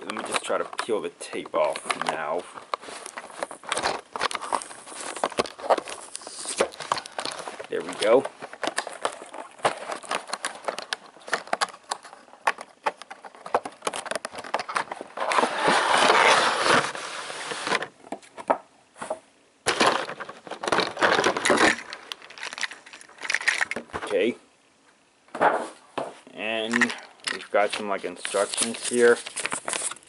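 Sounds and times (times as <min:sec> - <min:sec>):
packaging crinkling and clicking: 0:00.0 - 0:17.0, 0:19.7 - 0:23.9, 0:26.7 - 0:30.0
packaging rustling: 0:00.0 - 0:17.9, 0:19.7 - 0:24.0, 0:26.7 - 0:30.0.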